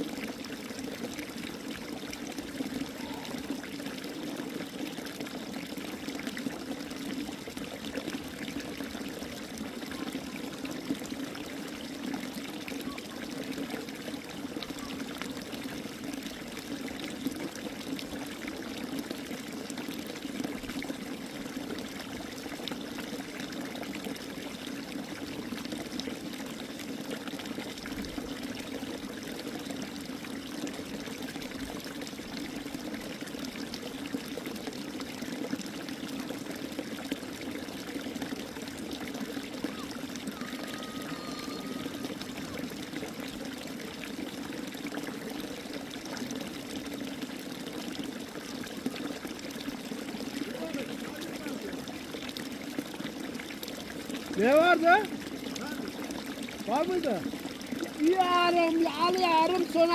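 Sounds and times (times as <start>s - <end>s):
water pouring and trickling: 0.0s - 59.9s.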